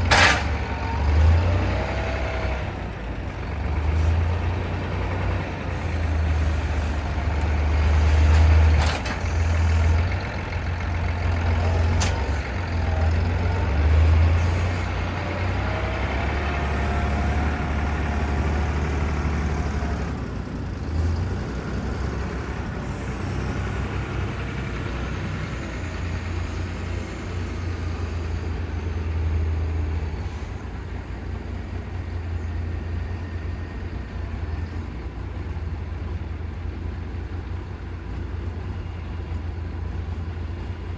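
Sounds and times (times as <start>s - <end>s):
heavy vehicle engine running: 0.0s - 40.9s.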